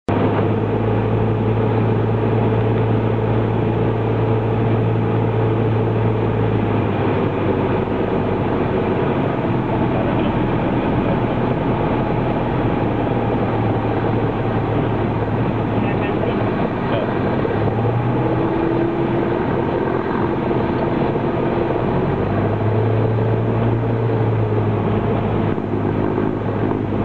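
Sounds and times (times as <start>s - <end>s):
propeller plane engine droning: 0.1s - 27.0s.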